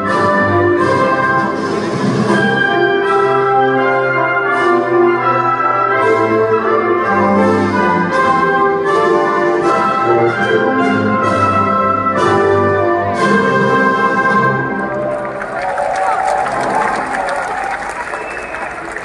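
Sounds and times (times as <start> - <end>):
orchestra playing slow brass chords: 0.0 - 18.2.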